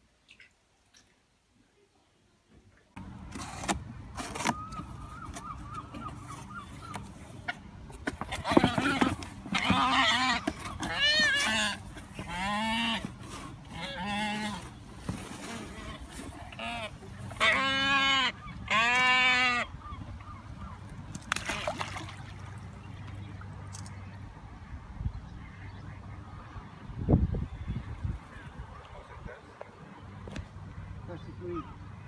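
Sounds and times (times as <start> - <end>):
waterbird calling: 4.2 - 7.6, 8.2 - 32.0.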